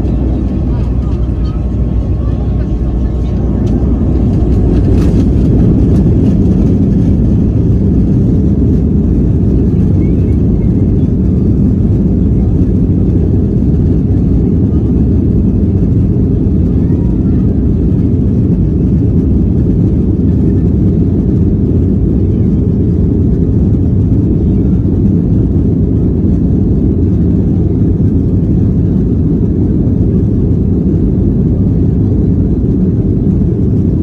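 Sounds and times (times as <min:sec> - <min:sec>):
jet engines rumbling: 0:00.0 - 0:34.0.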